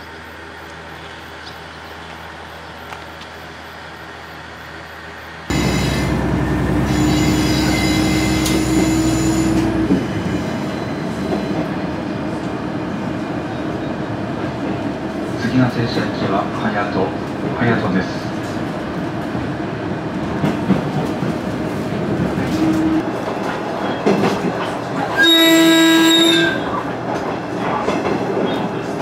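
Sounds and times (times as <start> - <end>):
railcar running noise: 0.0 - 29.0.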